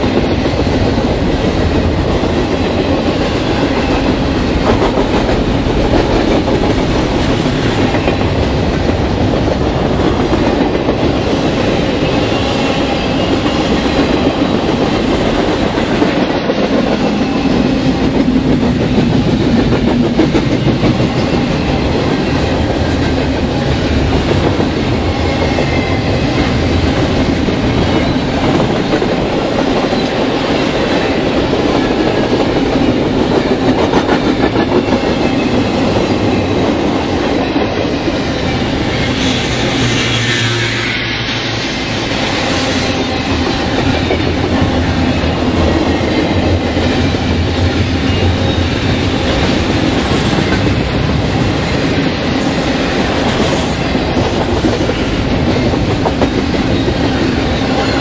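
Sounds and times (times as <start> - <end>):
wheels clickety-clack: 0.0 - 40.7, 42.1 - 58.0
freight train rumbling past: 0.0 - 58.0.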